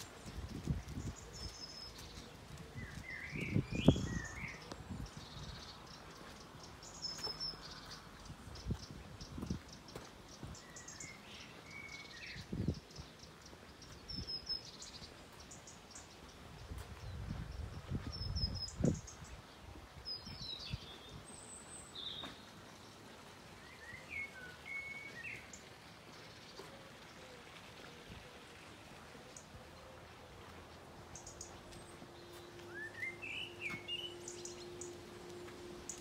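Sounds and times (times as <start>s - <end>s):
songbirds chirping and warbling: 0.0s - 36.0s.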